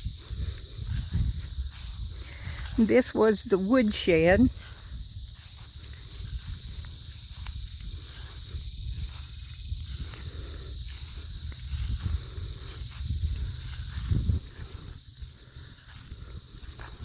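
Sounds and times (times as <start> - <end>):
low wind rumble: 0.0 - 2.8, 4.5 - 17.0
crickets droning: 0.0 - 17.0
footsteps on grass: 0.0 - 17.0.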